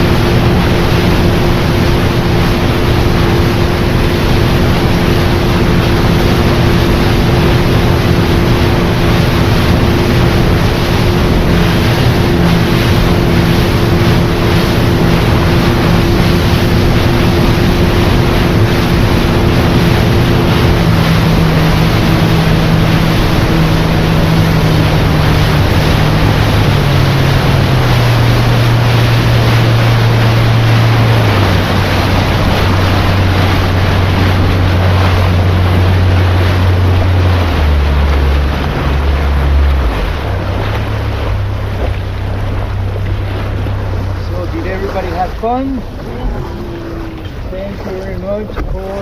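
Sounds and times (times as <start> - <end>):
boat motor running: 0.0 - 49.0
water rushing past hull: 0.0 - 49.0
wind on microphone: 0.0 - 49.0.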